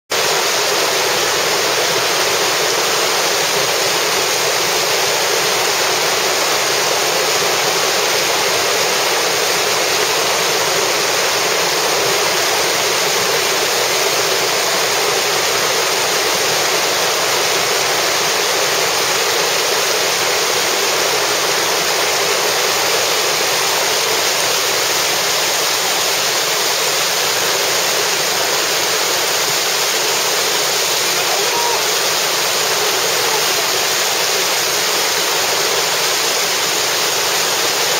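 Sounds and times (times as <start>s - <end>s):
river rapids rushing over rocks: 0.1s - 37.9s.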